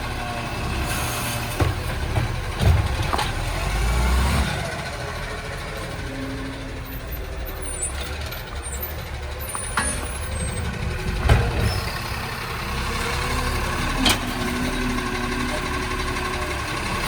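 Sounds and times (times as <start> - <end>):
garbage truck engine rumble: 0.0 - 17.0.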